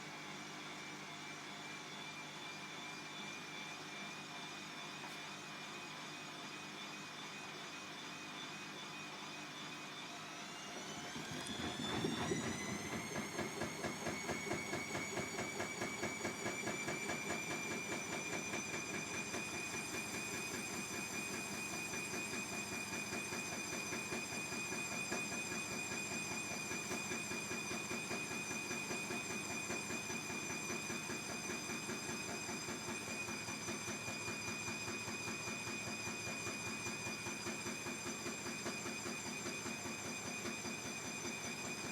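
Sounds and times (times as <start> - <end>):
washing machine motor whine: 0.0 - 41.9.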